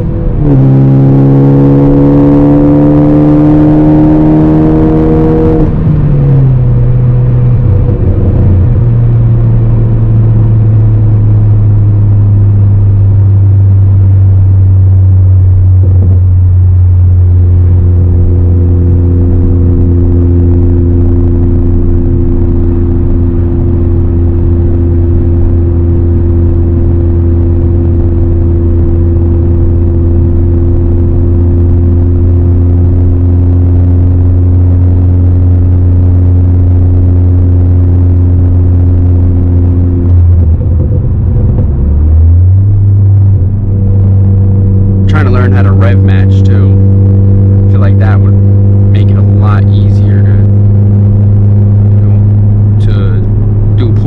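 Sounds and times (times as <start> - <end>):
car engine droning: 0.0 - 54.0.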